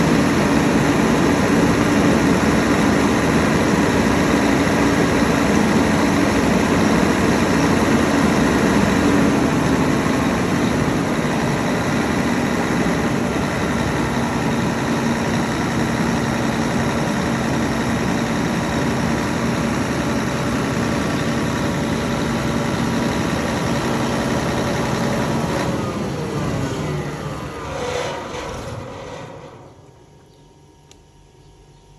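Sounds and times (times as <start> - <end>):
diesel generator running: 0.0 - 31.9.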